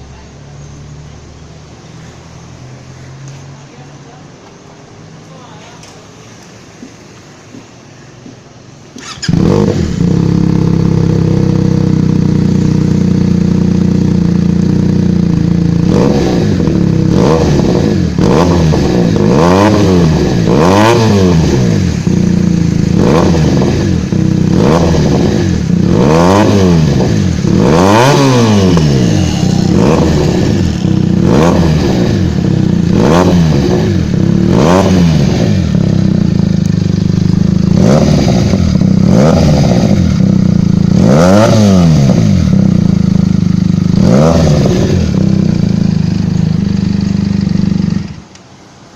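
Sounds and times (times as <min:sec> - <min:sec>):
motorcycle engine revving: 0:08.8 - 0:48.4.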